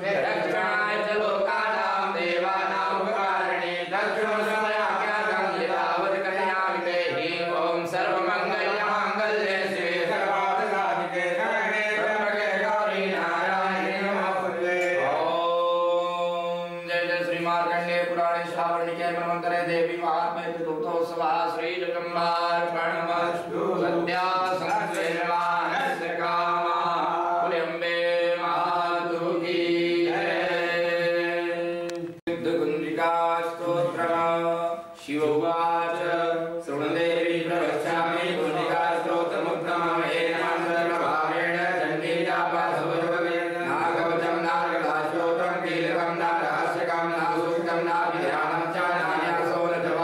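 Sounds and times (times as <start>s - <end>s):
men chanting: 0.0s - 50.0s.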